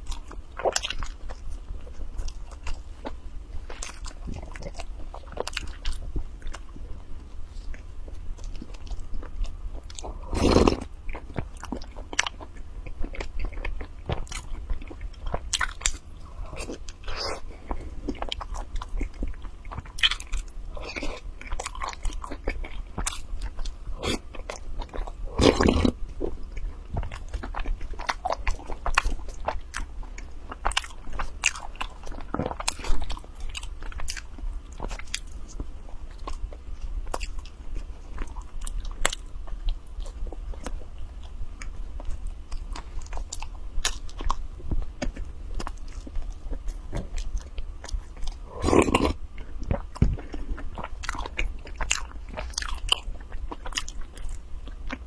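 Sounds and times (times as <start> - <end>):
person chewing bread: 0.0 - 55.0.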